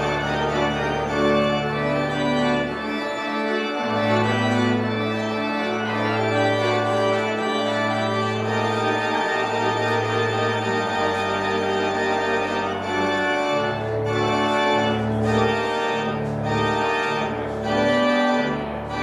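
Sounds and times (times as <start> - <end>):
organ music: 0.0 - 19.0.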